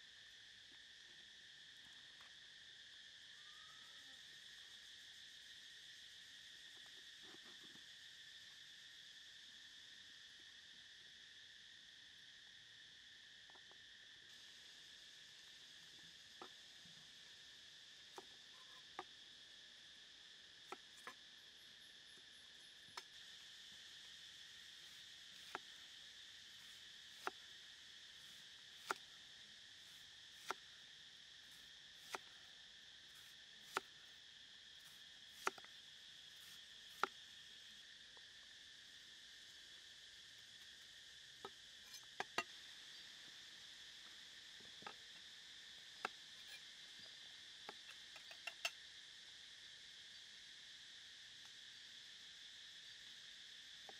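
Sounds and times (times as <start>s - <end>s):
high drone of insects: 0.0s - 53.9s.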